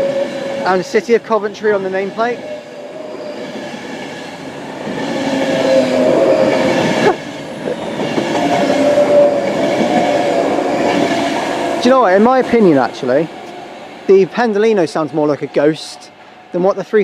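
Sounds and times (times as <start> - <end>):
train wheels rumble and clatter: 0.0 - 16.9
electric train drive wailing: 0.0 - 17.0.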